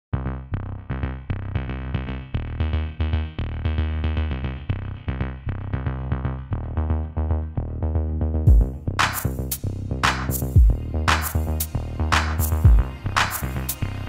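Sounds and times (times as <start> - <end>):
electronic music: 0.1 - 14.0.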